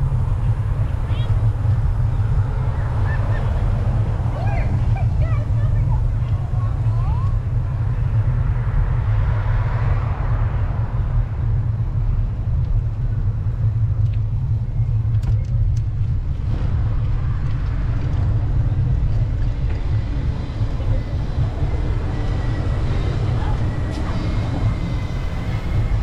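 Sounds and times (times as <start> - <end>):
passing traffic: 0.0 - 26.0
wind rumbling on microphone: 0.0 - 26.0.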